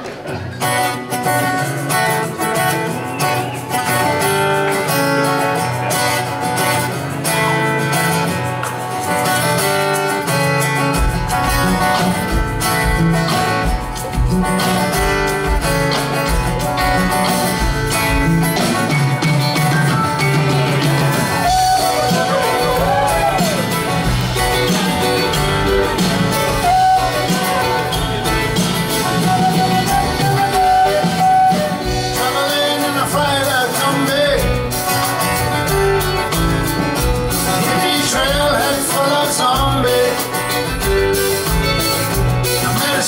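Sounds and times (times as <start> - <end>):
bass guitar: 0.0 - 43.0
live rock band playing: 0.0 - 43.0
strummed guitars: 0.0 - 43.0.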